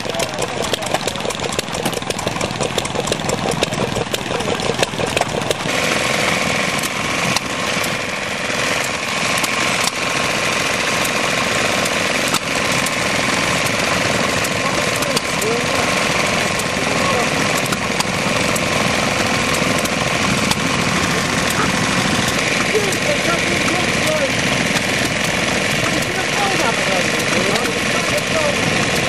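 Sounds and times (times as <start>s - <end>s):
small engine humming: 0.0s - 29.0s
stationary engine firing rapidly: 0.0s - 29.0s.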